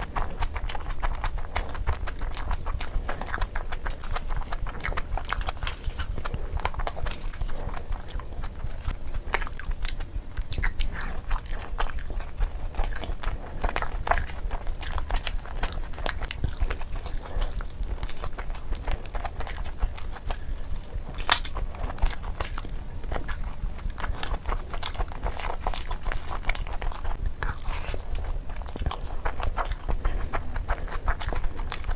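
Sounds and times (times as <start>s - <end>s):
low steady hum: 0.0s - 31.9s
wet chewing and mouth smacks: 0.0s - 31.9s.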